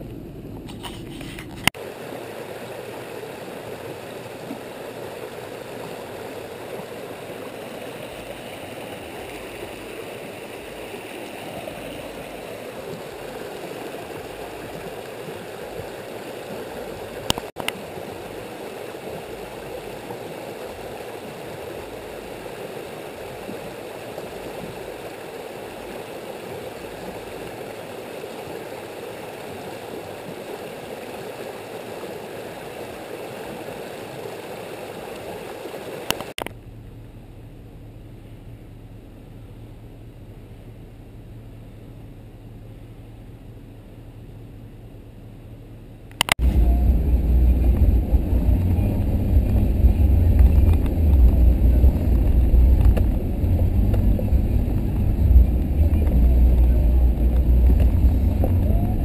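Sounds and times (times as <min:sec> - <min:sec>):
stream rushing over rocks: 0:00.7 - 0:36.5, 0:46.1 - 0:59.0.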